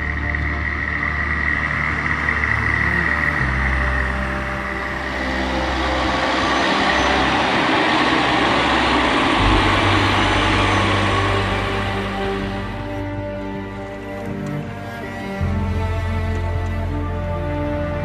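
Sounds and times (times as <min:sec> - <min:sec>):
broad rushing noise: 0:00.0 - 0:16.6
tractor engine droning under load: 0:00.0 - 0:18.0.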